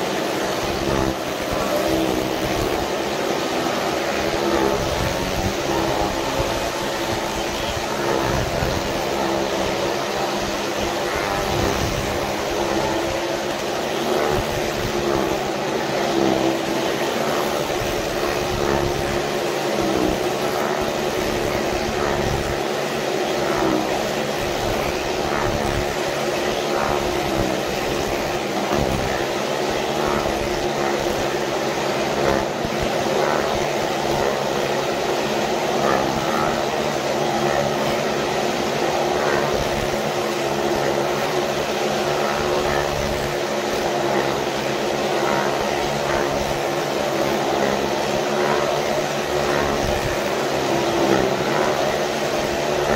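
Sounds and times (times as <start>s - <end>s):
motorcycle engines droning: 0.0s - 52.9s.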